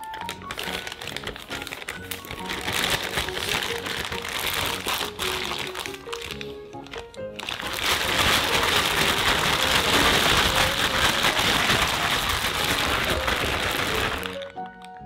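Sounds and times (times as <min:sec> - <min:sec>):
plastic bag crinkling while shaken: 0:00.0 - 0:14.9
food sticks tumbling in bag: 0:00.0 - 0:15.0.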